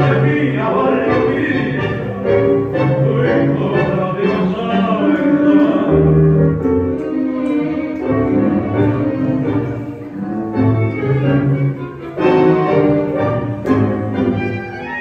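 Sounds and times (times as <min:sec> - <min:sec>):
tango orchestra with bowed strings: 0:00.0 - 0:15.0.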